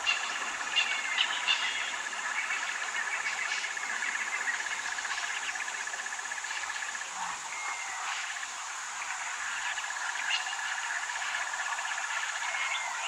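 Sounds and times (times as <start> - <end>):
insects and frogs chirring: 0.0 - 13.0.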